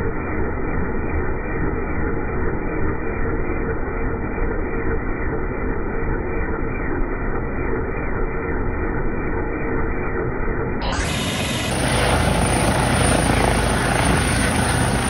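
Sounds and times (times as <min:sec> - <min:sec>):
faint whine: 0:00.0 - 0:15.0
helicopter turbine and rotor drone: 0:00.0 - 0:15.0.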